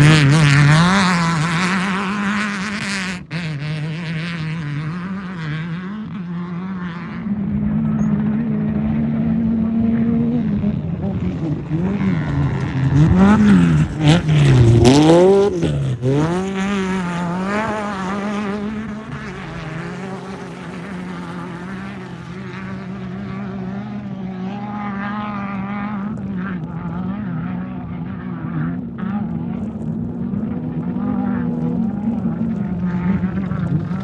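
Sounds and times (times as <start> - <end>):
off-road vehicle engine revving: 0.0 - 34.0
steady engine hum: 0.0 - 34.0.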